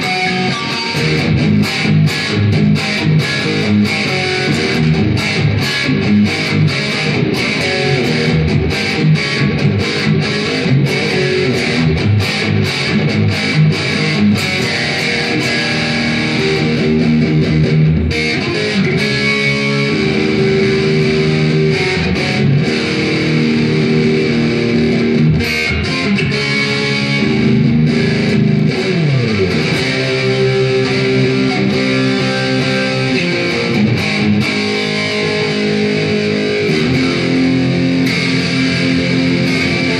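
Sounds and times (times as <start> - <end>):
electric guitar with reverb: 0.0 - 39.9.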